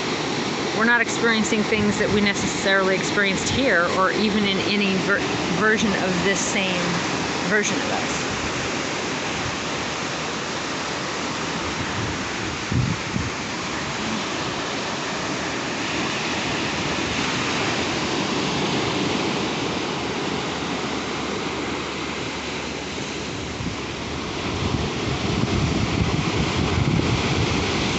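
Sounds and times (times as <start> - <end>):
waves washing against rocks: 0.0 - 27.9.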